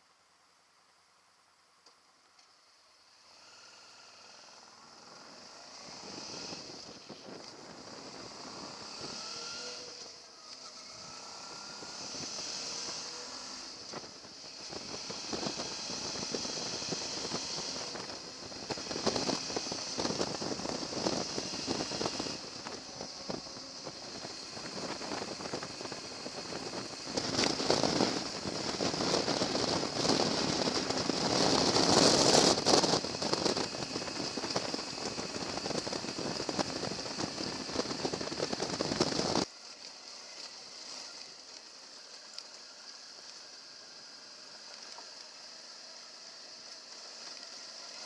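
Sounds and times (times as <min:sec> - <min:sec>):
wind hiss: 0:02.6 - 0:48.0
motorcycle engine running: 0:03.2 - 0:48.0.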